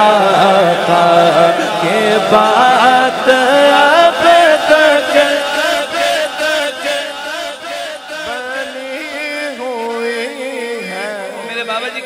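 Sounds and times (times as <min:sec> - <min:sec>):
men chanting through pa: 0:00.0 - 0:11.1.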